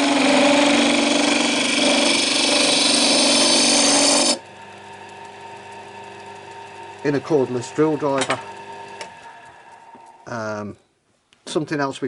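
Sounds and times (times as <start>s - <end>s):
power tool motor droning: 0.0s - 10.6s.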